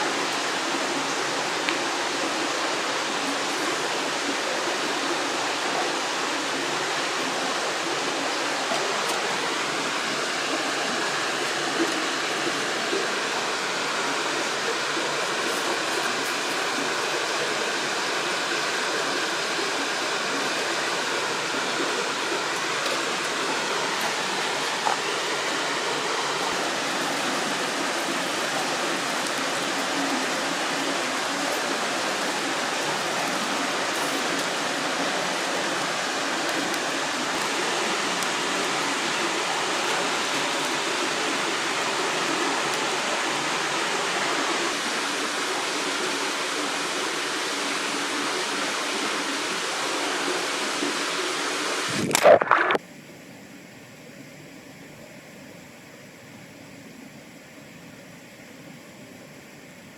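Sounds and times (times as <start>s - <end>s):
river rushing over rocks: 0.0s - 52.8s.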